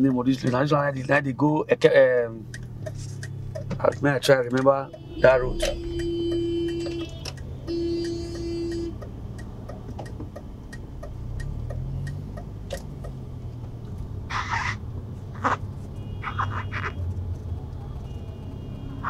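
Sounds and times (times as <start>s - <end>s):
car engine and road hum: 0.0s - 19.0s.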